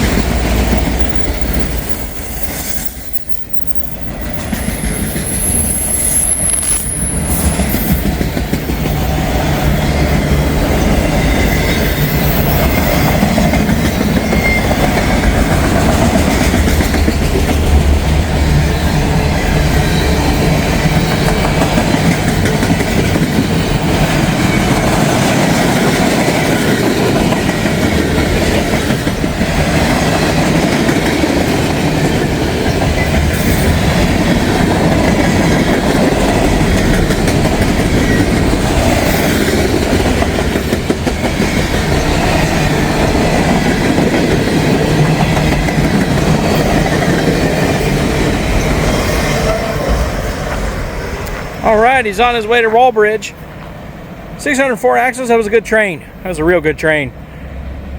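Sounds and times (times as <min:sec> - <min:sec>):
clickety-clack over rail joints: 0:00.0 - 0:05.5, 0:06.6 - 0:53.8
freight train wheels rumbling on rail: 0:00.0 - 0:57.9.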